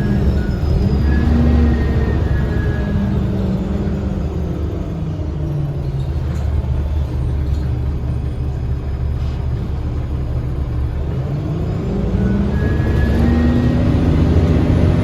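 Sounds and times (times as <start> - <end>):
bus diesel engine rumbling: 0.0 - 15.0
road noise: 0.0 - 15.0.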